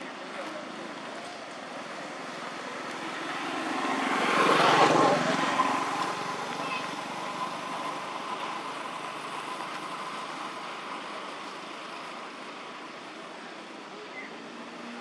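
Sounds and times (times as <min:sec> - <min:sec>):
passing road vehicle: 0:00.0 - 0:15.0.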